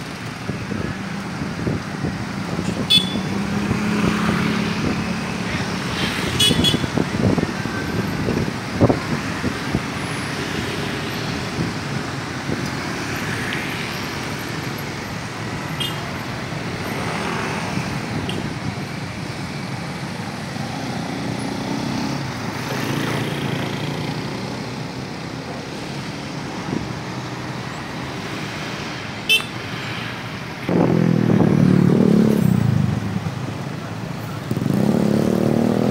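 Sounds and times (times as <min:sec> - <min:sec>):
motorcycles and cars passing: 0:00.0 - 0:35.9.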